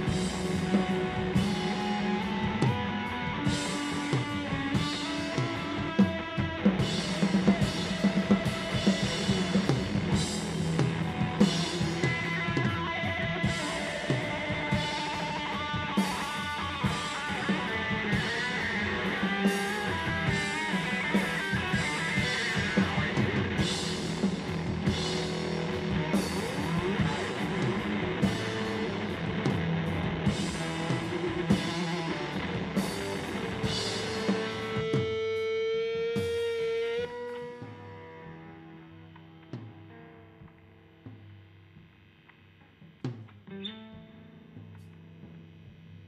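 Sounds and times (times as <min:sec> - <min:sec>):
distorted electric guitar: 0:00.0 - 0:46.0
drum kit with cymbal hits: 0:00.0 - 0:46.0.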